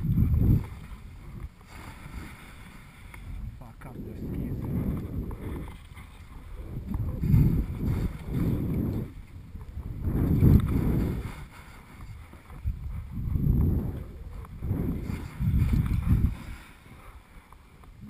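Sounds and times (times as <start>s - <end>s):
skis sliding through snow: 0.0s - 18.0s
wind rushing over microphone: 0.0s - 18.0s.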